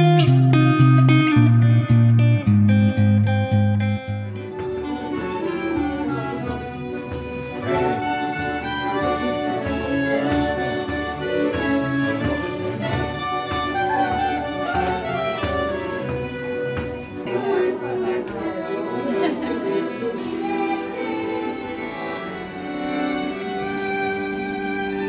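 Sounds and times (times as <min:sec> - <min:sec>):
guitar-led music: 0:00.0 - 0:25.0
rhythmic accompaniment: 0:00.0 - 0:25.0
clarinet: 0:04.0 - 0:25.0
fiddle: 0:04.2 - 0:25.0.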